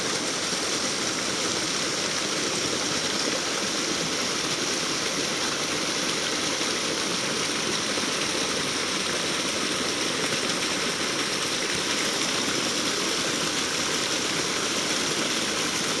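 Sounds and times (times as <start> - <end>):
creek water flowing over rocks: 0.0 - 16.0.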